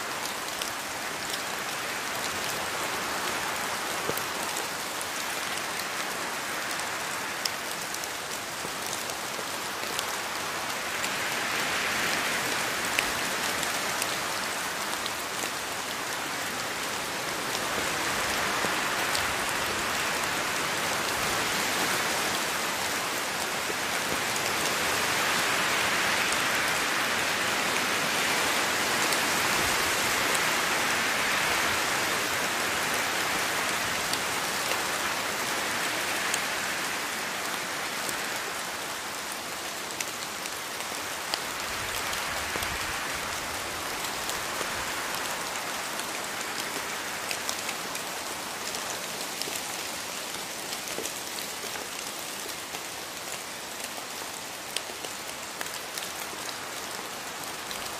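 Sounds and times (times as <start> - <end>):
rain falling on foliage: 0.0 - 57.9.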